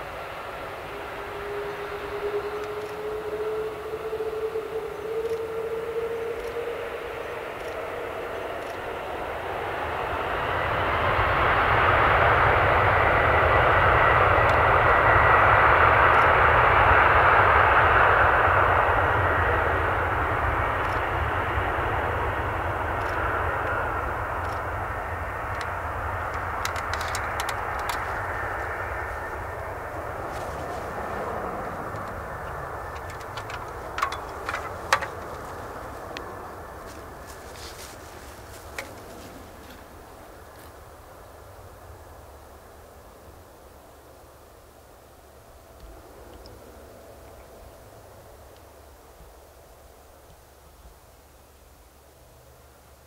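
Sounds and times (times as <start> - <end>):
jet engine roar: 0.0 - 49.6
jet engine whine: 0.0 - 53.0.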